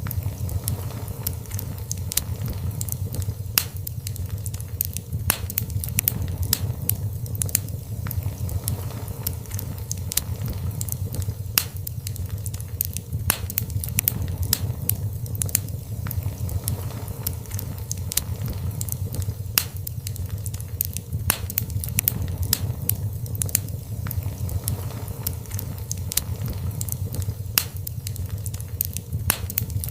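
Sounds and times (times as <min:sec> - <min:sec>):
fire crackling and popping: 0:00.0 - 0:29.9.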